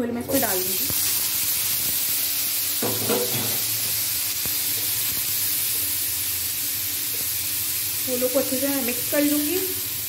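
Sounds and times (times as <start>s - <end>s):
chickpeas sizzling in oil: 0.3s - 10.0s.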